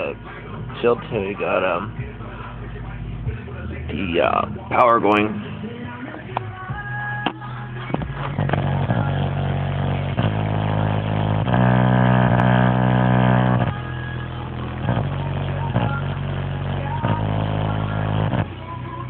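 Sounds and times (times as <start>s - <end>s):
deep bass notes from subwoofers: 0.0s - 19.0s.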